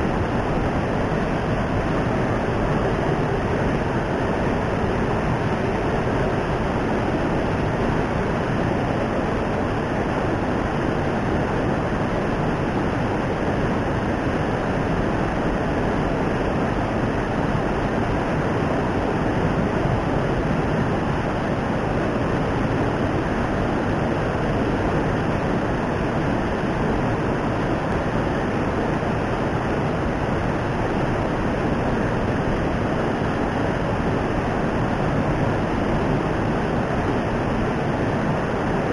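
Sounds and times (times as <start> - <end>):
fast-flowing water rushing: 0.0 - 38.9.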